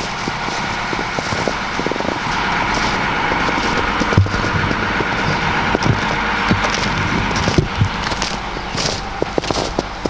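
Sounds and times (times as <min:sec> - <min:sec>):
footsteps crunching through snow: 0:00.0 - 0:10.0
steady background hum: 0:00.0 - 0:10.0.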